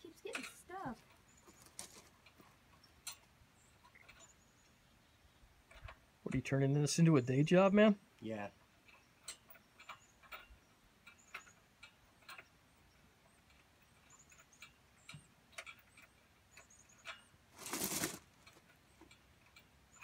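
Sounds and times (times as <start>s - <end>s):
rustle: 0.0s - 20.0s.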